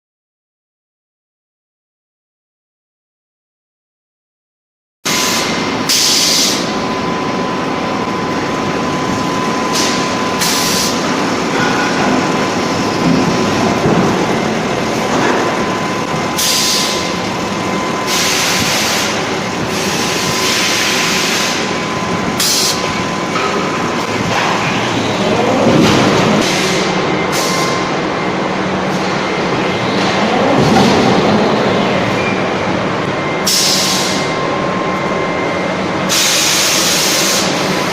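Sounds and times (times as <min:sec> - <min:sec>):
factory machine noise with whine: 0:05.1 - 0:37.9.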